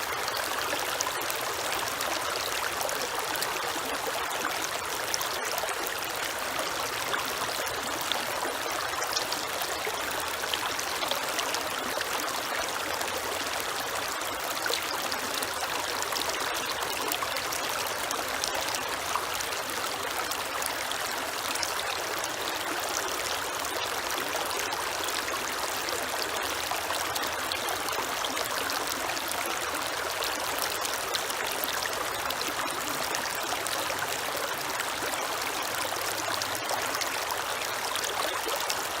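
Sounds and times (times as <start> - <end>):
creek water flowing over stones: 0.0 - 39.0.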